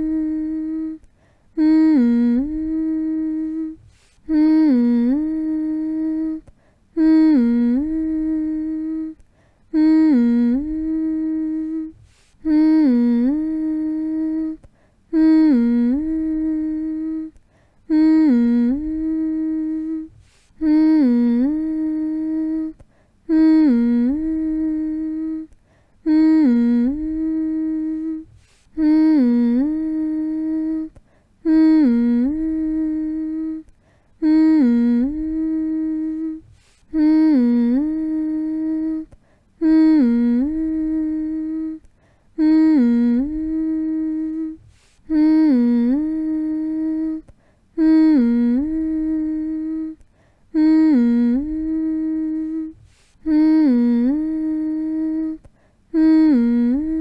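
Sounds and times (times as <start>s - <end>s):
person humming: 0.0s - 57.0s.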